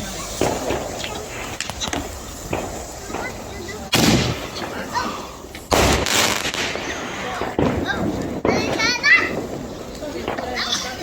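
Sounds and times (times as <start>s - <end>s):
firework bangs: 0.0s - 11.0s
light firework pops: 0.2s - 11.0s.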